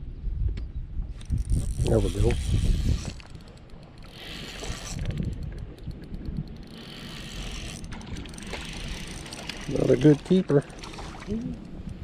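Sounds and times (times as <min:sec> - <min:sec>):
wind noise on microphone: 0:00.0 - 0:09.9, 0:10.9 - 0:12.0
fishing reel clicking: 0:01.2 - 0:12.0.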